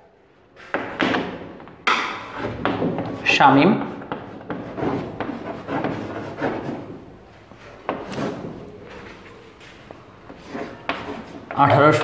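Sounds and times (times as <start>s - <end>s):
chalk tapping and scraping on blackboard: 0.6s - 11.6s.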